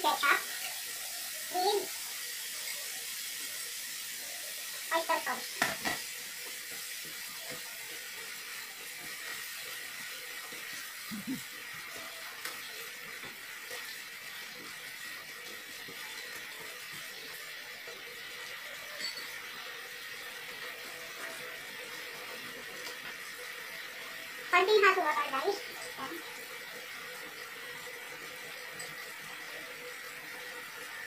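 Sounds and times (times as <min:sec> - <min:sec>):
sauce simmering in a frying pan: 0:00.0 - 0:31.0.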